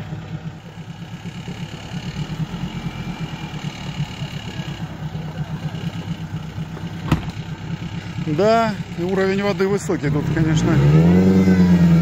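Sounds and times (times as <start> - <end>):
engine throbbing at low speed: 0.0 - 12.0.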